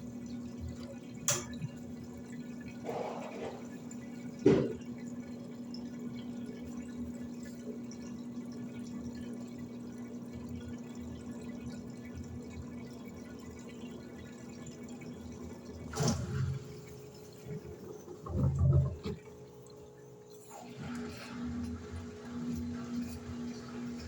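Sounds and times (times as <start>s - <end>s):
washing machine hum: 0.0s - 24.0s
water running into tub: 0.0s - 24.0s.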